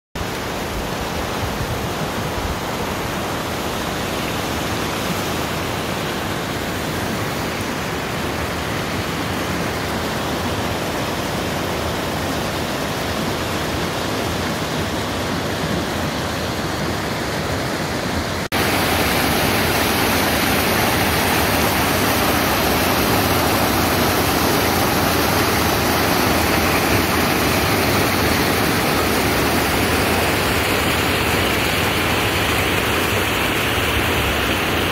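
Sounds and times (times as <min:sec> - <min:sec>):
stream rushing over boulders: 0:00.2 - 0:34.9.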